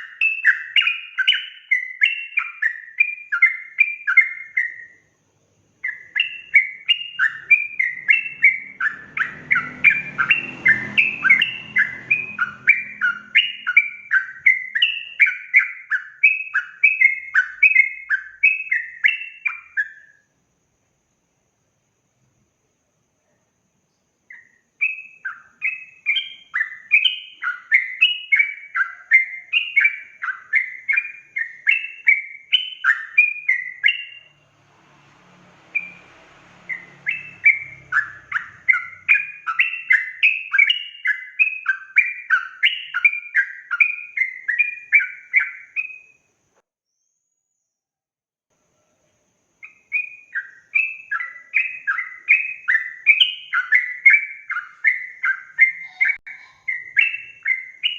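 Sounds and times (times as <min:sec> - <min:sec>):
bird singing chattering song: 0:00.0 - 0:20.2, 0:23.9 - 0:46.2, 0:49.6 - 0:57.9.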